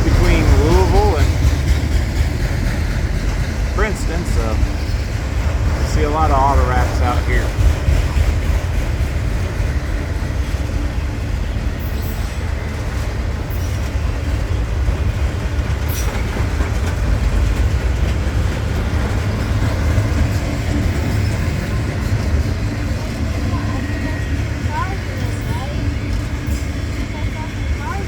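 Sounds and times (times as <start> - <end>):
freight train rumbling on rails: 0.0 - 28.0.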